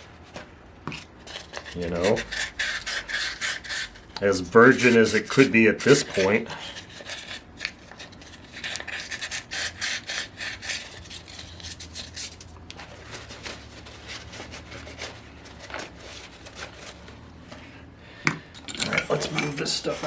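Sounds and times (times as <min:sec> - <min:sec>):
rubbing and scraping on engine parts: 0:00.0 - 0:17.8, 0:18.6 - 0:20.0.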